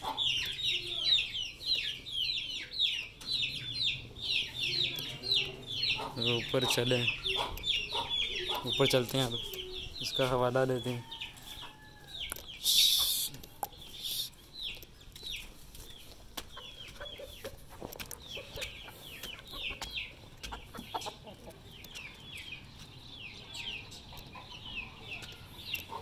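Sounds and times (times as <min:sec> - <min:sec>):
chickens peeping: 0:00.0 - 0:26.0.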